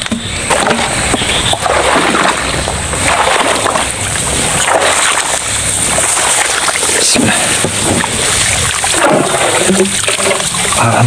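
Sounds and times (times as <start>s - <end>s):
footsteps splashing through wet grass: 0.0s - 11.0s.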